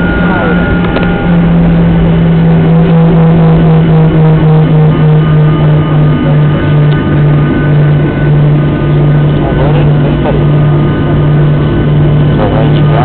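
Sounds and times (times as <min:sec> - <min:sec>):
airliner cabin hum: 0:00.0 - 0:13.0.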